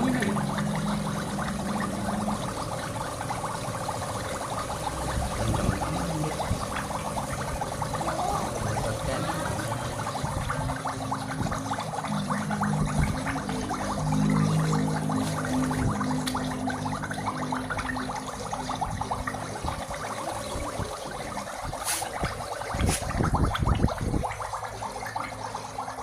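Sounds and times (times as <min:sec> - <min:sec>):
gas hissing through pipework: 0:00.0 - 0:26.0
low hum: 0:00.0 - 0:26.0.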